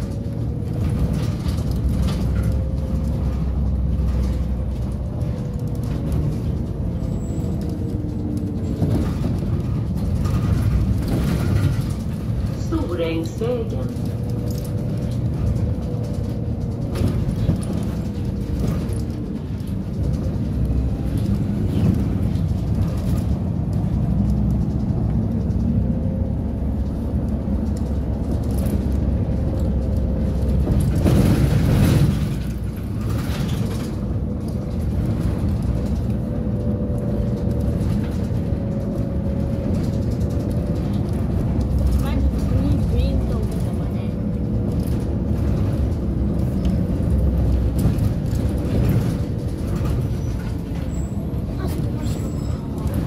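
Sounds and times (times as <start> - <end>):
bus motor and road rumble: 0.0 - 53.0.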